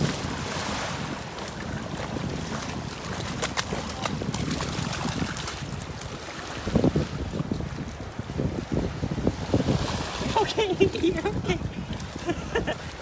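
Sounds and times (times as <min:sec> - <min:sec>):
seawater splashing and lapping: 0:00.0 - 0:13.0
wind noise on microphone: 0:00.0 - 0:13.0.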